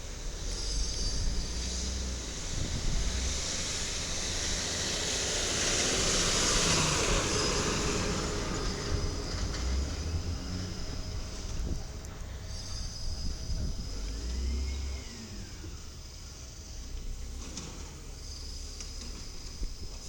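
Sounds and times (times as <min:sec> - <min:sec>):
garbage truck engine rumbling: 0:00.0 - 0:20.0.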